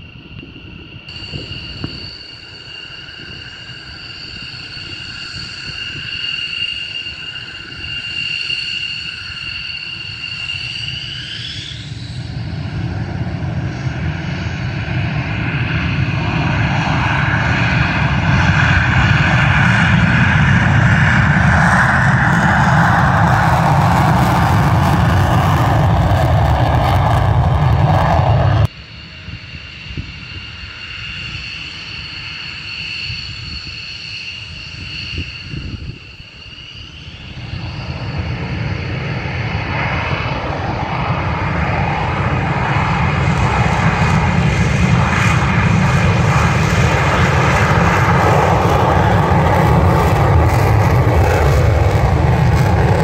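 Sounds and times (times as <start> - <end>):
jet engine roar on takeoff: 0.0 - 53.0
jet engine whine at low power: 0.0 - 53.0.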